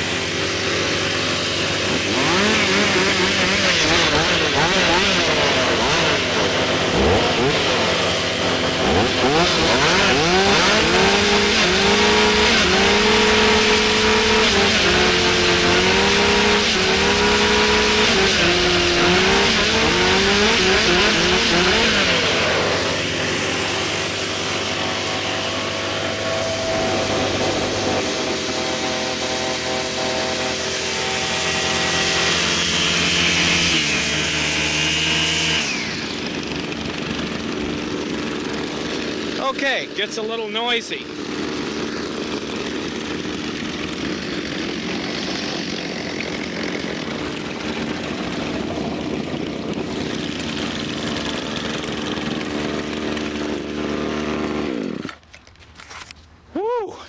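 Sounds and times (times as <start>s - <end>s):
chainsaws revving: 0.0s - 56.7s
string trimmer engine: 0.0s - 56.8s
leaf blower engine: 0.0s - 57.0s.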